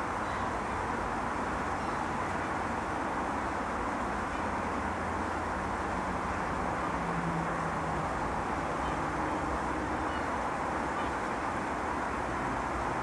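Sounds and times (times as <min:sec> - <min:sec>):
constant hiss and rumble: 0:00.0 - 0:13.0.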